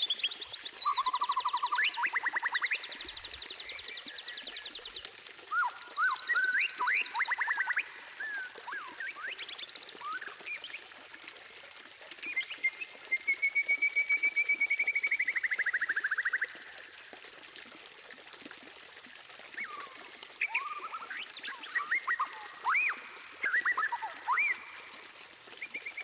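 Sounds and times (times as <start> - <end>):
songbird whistling and trilling: 0.0 - 4.1, 5.5 - 10.7, 12.2 - 24.9.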